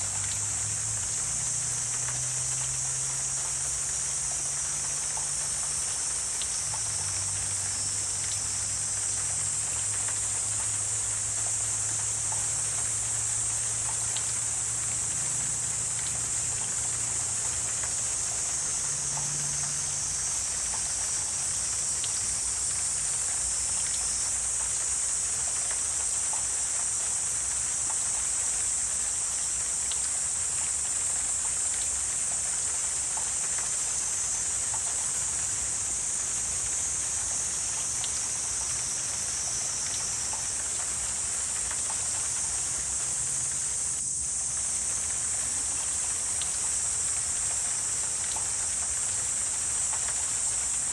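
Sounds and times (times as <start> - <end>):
high-pitched insect chorus: 0.0 - 50.9
faint ticks: 0.1 - 50.9.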